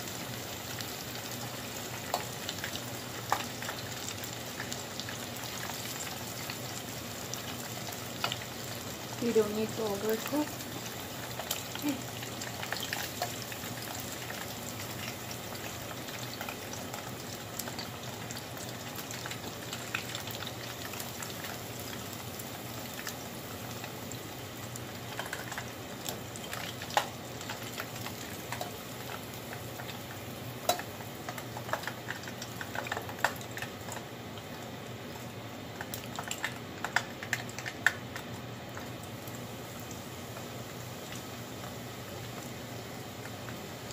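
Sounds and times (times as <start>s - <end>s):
oil sizzling and bubbling: 0.0s - 43.9s.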